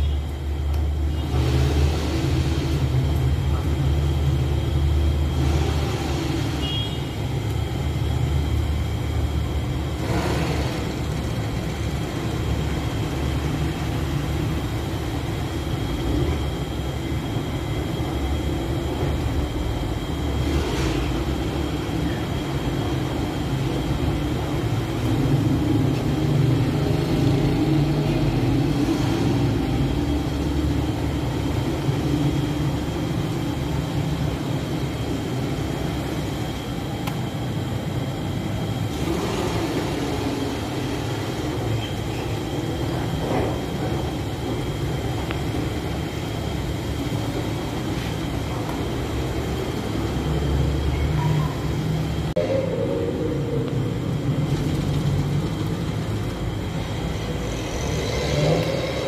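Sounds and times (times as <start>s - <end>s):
high whine: 0.0s - 59.0s.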